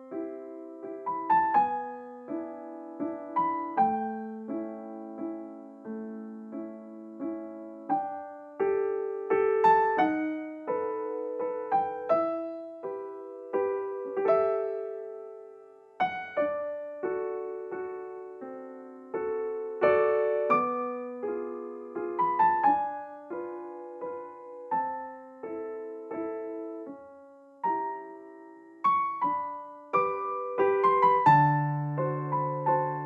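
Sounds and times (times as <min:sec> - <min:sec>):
soft solo piano music: 0:00.0 - 0:33.0.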